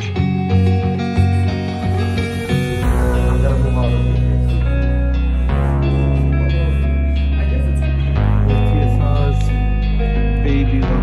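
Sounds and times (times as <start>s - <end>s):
bass line: 0.0s - 11.0s
plucked guitar: 0.0s - 11.0s.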